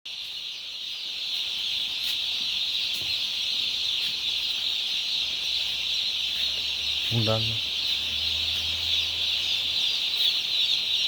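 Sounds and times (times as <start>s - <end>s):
flock of chickens calling: 0.1s - 11.0s.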